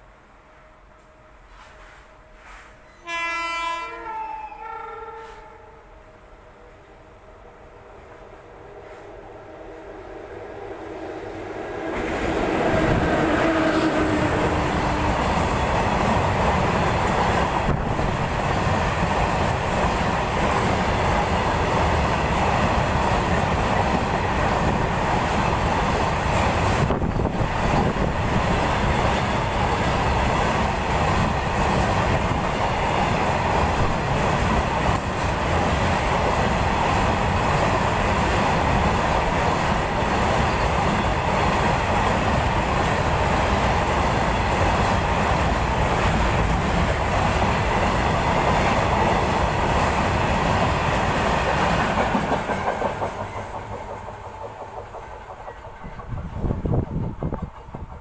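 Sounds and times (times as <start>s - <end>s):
freight train wheels on rails: 0.0s - 5.6s, 6.2s - 58.0s.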